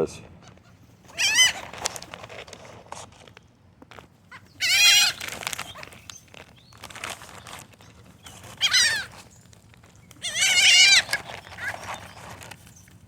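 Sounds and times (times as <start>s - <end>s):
birds calling: 0.3s - 2.2s, 4.2s - 13.0s.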